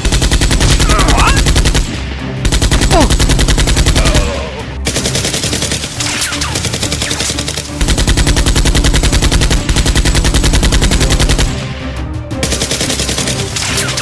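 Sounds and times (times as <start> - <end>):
machine-gun fire: 0.0 - 11.6, 12.4 - 14.0.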